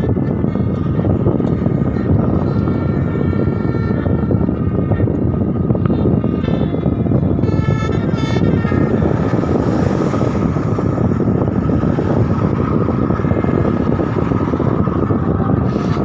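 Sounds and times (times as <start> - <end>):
heavy vehicle road noise: 0.0 - 16.0.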